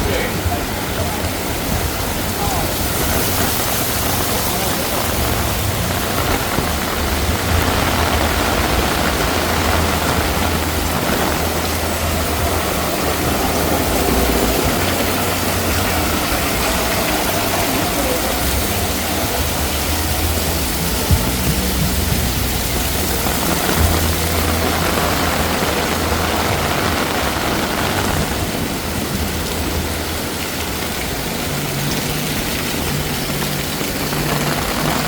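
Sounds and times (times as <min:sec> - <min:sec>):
heavy rain falling: 0:00.0 - 0:35.0
traffic engines rumbling: 0:00.0 - 0:35.0.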